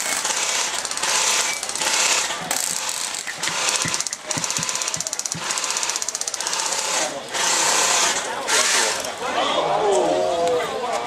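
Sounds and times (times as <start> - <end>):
airsoft guns firing full auto: 0.0 - 9.0.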